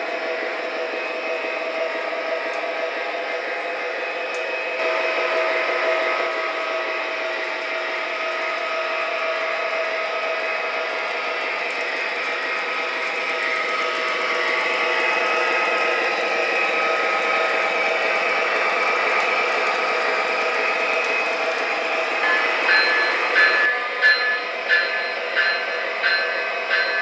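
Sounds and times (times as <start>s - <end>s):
model diesel locomotive engine: 0.0s - 27.0s
model freight cars rolling on track: 0.0s - 27.0s.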